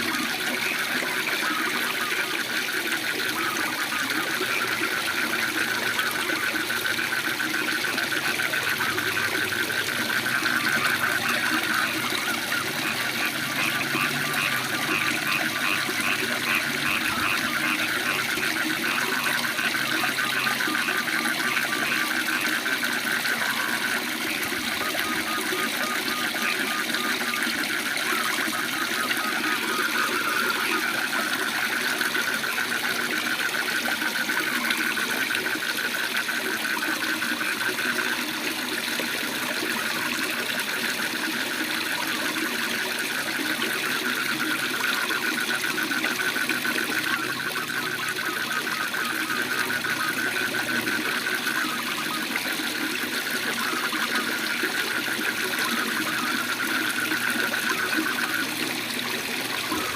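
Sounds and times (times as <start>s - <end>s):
animals calling in pulsing trills: 0.0s - 59.9s.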